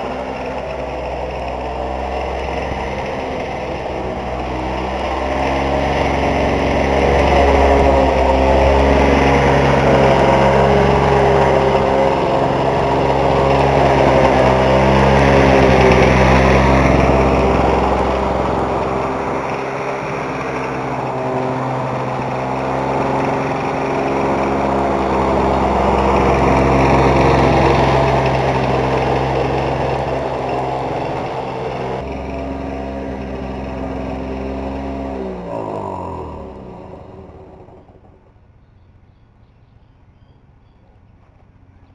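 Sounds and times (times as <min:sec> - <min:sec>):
lawn mower engine running: 0:00.0 - 0:39.4.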